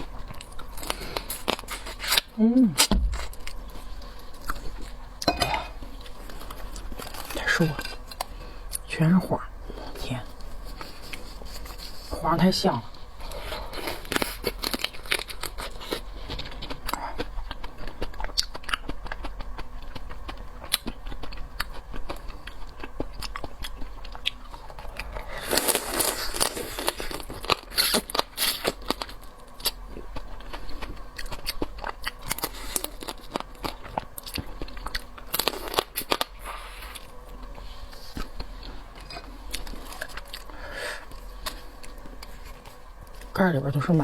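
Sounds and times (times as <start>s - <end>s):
crunching and chewing: 0.0s - 12.1s, 12.9s - 44.0s.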